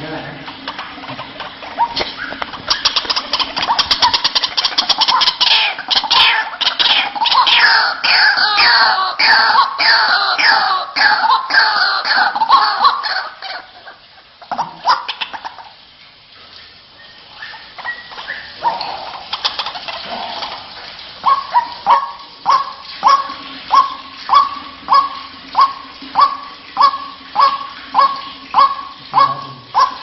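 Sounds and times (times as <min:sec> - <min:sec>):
waterhen croaking calls: 0:00.0 - 0:15.9, 0:16.9 - 0:30.0.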